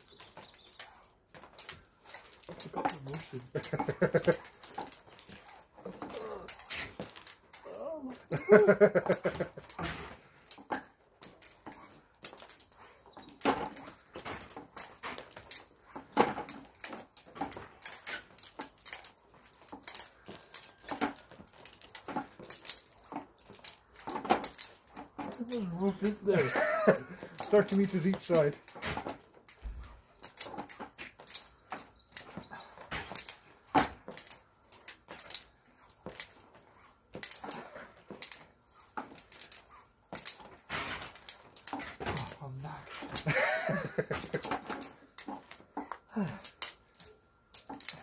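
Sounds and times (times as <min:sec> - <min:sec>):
light metal clinks: 0:00.0 - 0:48.0
rope being hauled: 0:00.0 - 0:48.0
rope rustling: 0:00.0 - 0:48.0.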